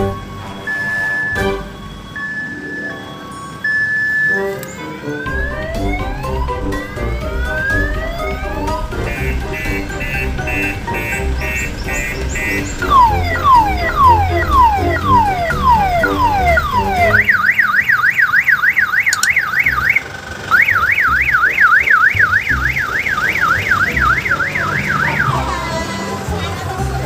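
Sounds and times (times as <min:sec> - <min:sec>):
electronic siren: 0:00.0 - 0:25.7.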